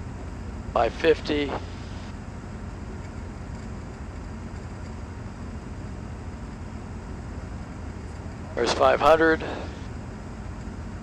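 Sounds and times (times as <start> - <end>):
aircraft engine and propeller drone: 0.0 - 11.0.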